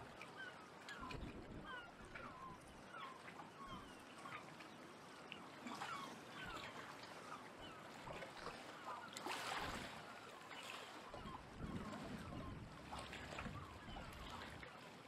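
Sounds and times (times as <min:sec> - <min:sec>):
small waves lapping against rocks: 0:00.0 - 0:15.0.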